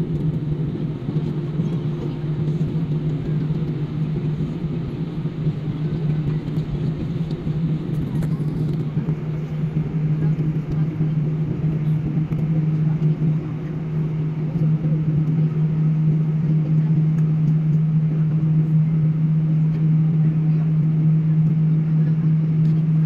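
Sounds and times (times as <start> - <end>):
airliner engine drone: 0.0 - 23.0.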